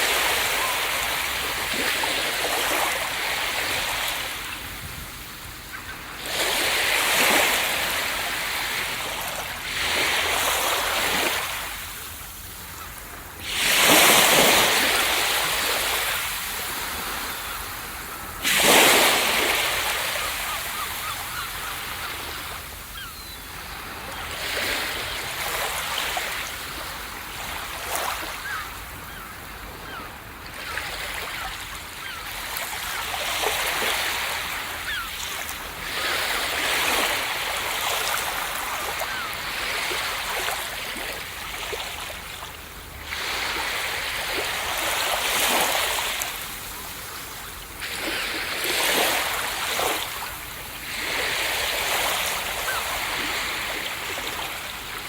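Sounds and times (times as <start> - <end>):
ocean waves breaking: 0.0 - 29.2, 29.8 - 55.0.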